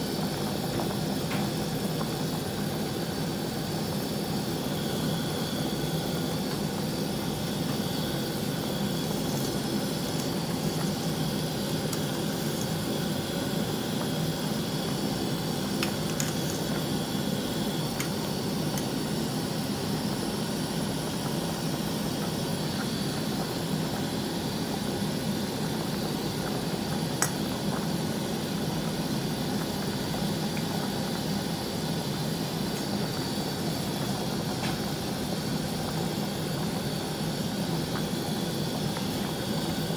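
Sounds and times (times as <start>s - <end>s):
broth boiling and bubbling: 0.0s - 39.9s.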